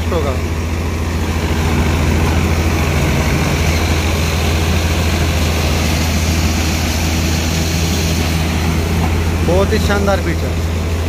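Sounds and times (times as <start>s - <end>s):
thresher machine droning: 0.0s - 11.0s.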